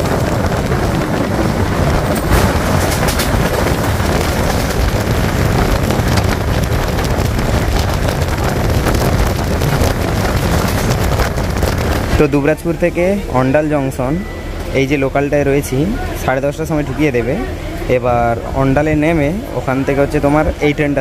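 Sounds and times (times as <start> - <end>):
train wheels rumbling on rail: 0.0 - 21.0
wind buffeting microphone: 0.0 - 21.0.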